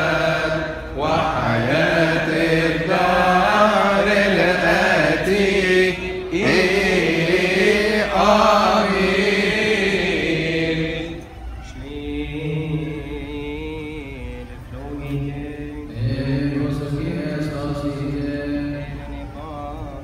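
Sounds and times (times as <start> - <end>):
men chanting a hymn: 0.0 - 20.0.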